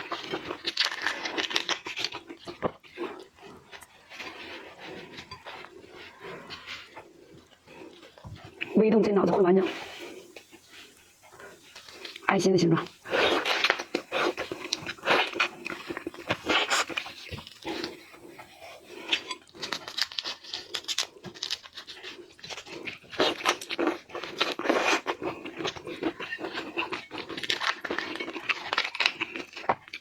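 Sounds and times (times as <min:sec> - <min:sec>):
wet squishing: 0:00.0 - 0:30.0.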